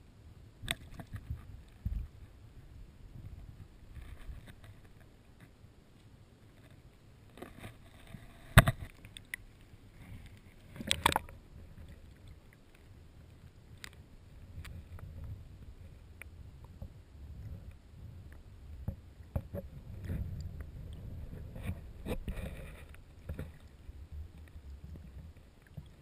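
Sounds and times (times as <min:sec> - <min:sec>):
muffled underwater water rumble: 0:00.0 - 0:05.7, 0:06.4 - 0:26.0.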